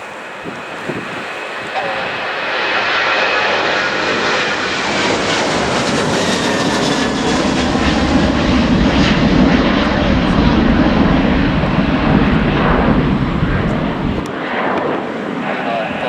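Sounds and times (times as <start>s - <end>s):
airliner engines passing: 0.0s - 16.0s.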